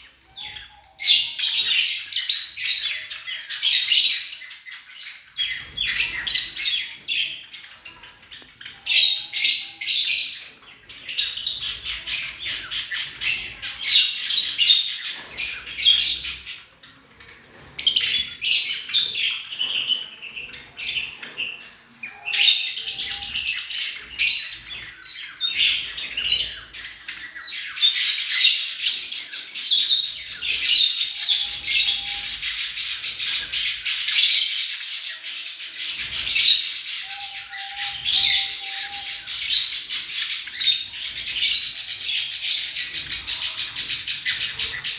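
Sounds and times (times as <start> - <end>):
lovebirds chirping and squawking: 0.0 - 44.9.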